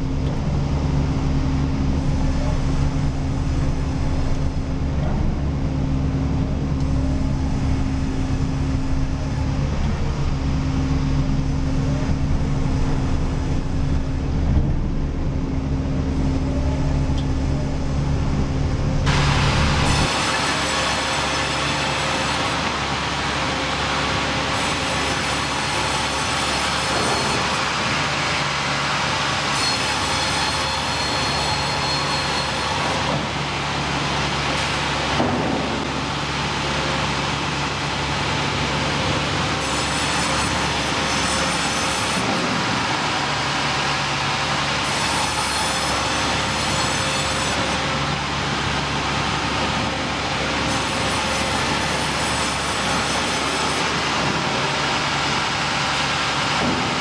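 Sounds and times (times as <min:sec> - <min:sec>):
sawmill machinery rumbling: 0:00.0 - 0:57.0.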